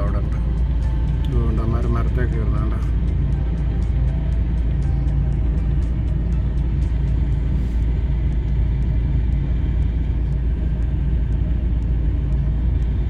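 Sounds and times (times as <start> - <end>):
car driving slowly from inside: 0.0 - 13.0
faint regular high ticking: 0.0 - 13.0.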